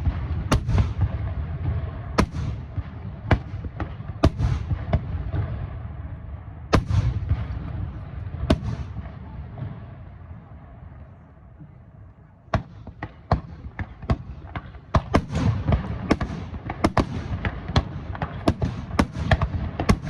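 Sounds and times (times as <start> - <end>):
fireworks bursting with sharp bangs: 0.0 - 20.0
rolling rumble of echoing booms: 0.0 - 20.0.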